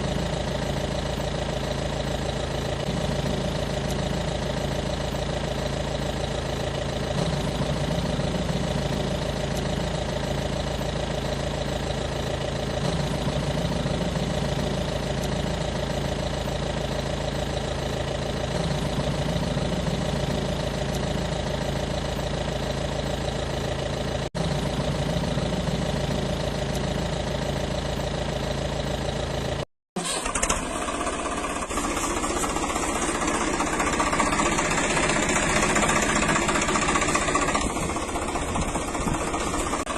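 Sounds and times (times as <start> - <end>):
engine running with pulsing throb: 0.0 - 39.9.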